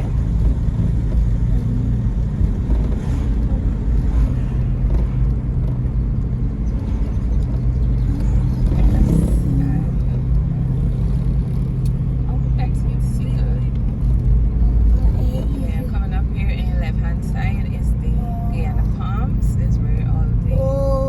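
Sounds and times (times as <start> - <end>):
car engine humming: 0.0 - 21.0
road noise rumble: 0.0 - 21.0.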